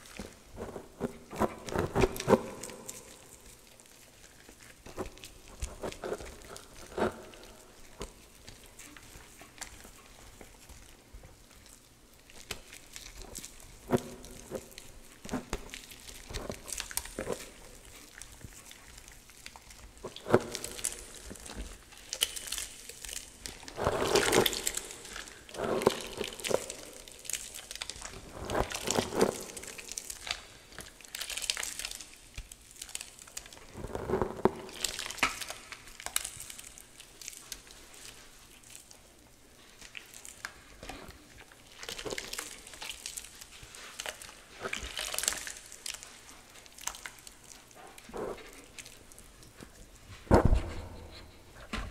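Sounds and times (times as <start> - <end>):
hands crushing damp chalk: 0.0 - 51.9.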